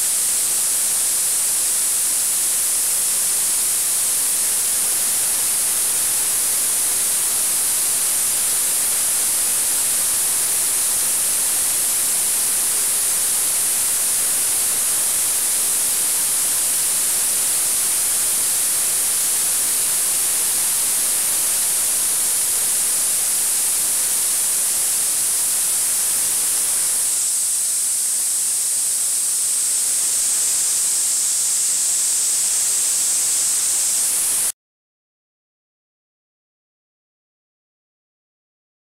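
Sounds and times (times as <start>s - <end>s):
ultrasonic cleaner hiss: 0.0s - 34.5s.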